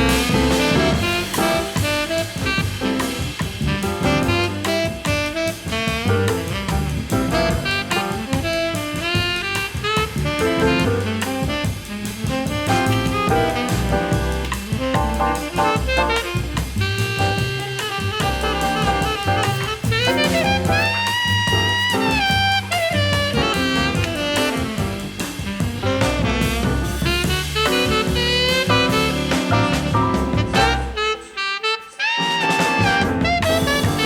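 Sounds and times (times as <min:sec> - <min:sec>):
jazz music with saxophone lead: 0:00.0 - 0:34.0.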